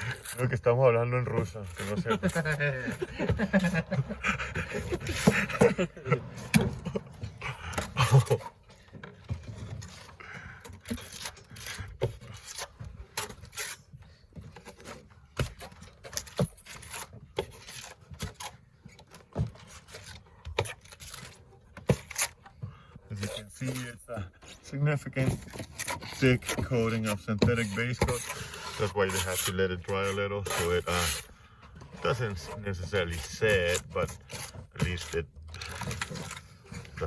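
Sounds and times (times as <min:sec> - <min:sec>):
tools scraping and tapping: 0:00.0 - 0:37.0.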